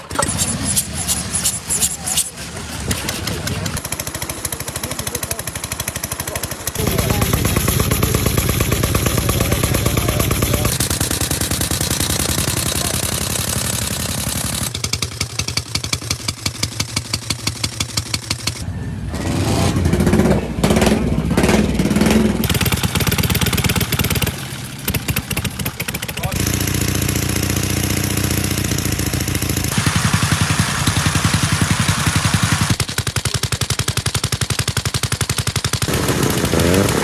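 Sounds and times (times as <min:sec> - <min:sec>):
engine revving: 0:00.0 - 0:33.0, 0:35.0 - 0:37.0
motorcycle engines running: 0:00.0 - 0:37.0.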